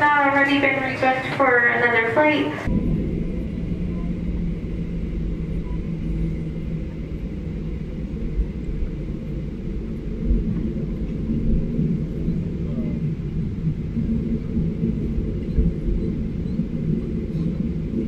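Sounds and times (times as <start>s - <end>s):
aircraft cabin rumble: 0.0s - 18.0s
steady hum: 0.0s - 18.0s.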